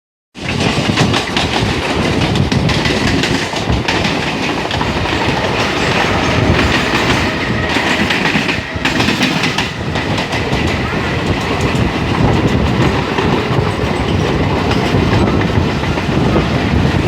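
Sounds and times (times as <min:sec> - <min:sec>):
train running noise: 0:00.4 - 0:17.0
train wheels clattering over joints: 0:00.4 - 0:17.0.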